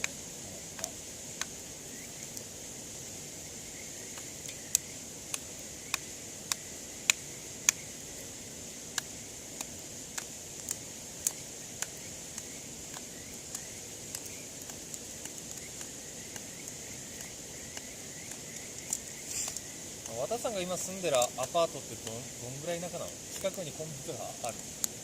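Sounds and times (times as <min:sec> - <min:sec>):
campfire pops: 0:00.0 - 0:25.0
campfire wood crackling: 0:00.0 - 0:25.0
night insects chirring: 0:00.0 - 0:25.0.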